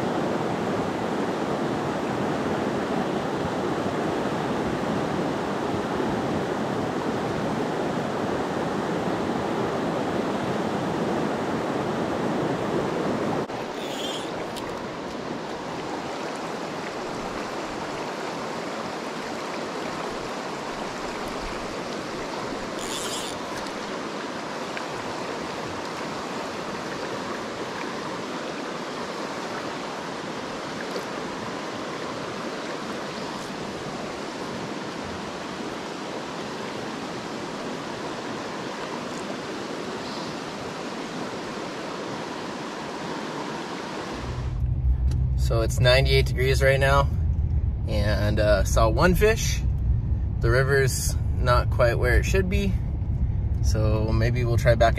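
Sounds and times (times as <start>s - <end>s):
river flowing over rocks: 0.0s - 44.6s.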